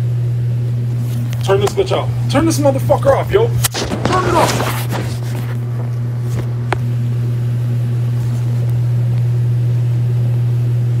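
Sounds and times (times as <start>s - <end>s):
refrigeration unit humming: 0.0s - 11.0s.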